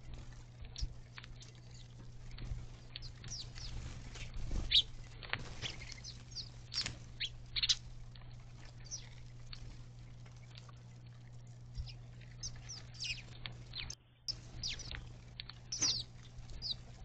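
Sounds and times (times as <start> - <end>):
steady low hum: 0.0 - 17.0
sparrows chirping: 0.7 - 9.8, 11.7 - 17.0.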